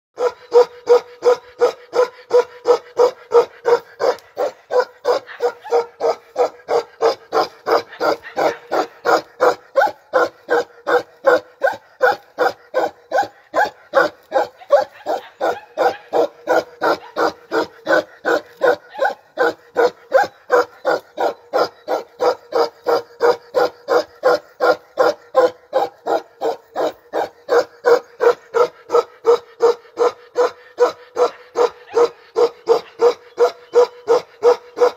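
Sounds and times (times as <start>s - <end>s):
dog barking: 0.2s - 34.9s.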